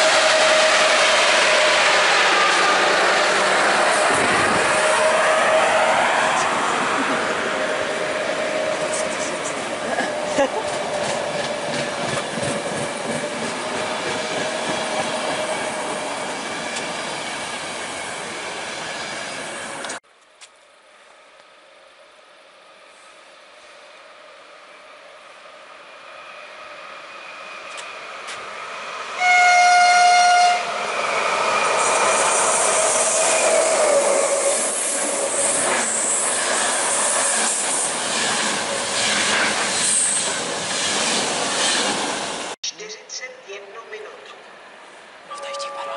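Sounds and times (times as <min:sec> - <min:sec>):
train wheels rolling on track: 0:00.0 - 0:42.6.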